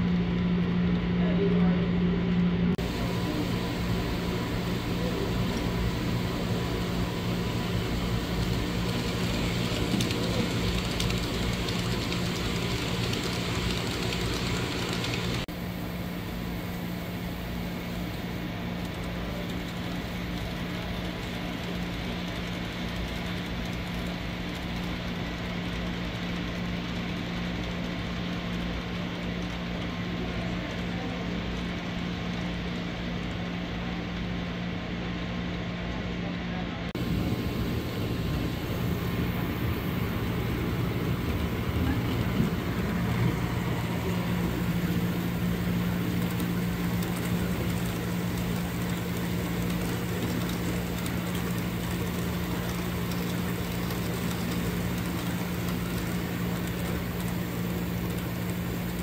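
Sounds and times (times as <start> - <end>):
constant hum: 0.0 - 59.0
model train rolling on track: 2.8 - 34.3, 37.0 - 59.0.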